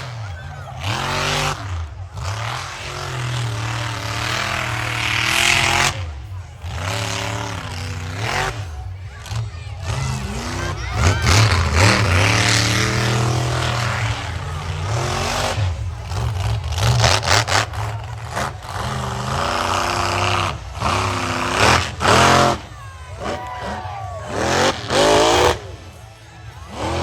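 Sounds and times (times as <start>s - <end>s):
truck engine revving hard: 0.0s - 27.0s.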